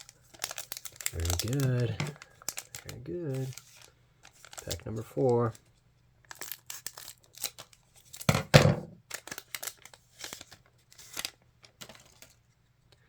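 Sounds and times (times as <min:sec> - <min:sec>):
card pack wrapper tearing and crinkling: 0:00.0 - 0:08.4, 0:09.0 - 0:12.4.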